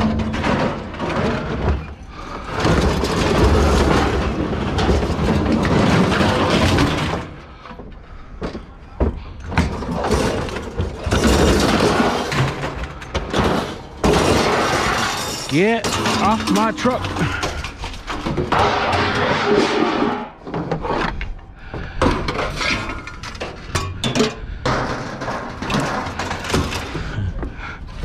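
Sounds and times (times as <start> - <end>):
scrap metal scraping and crashing: 0.0 - 7.6, 9.6 - 21.1, 22.2 - 27.2.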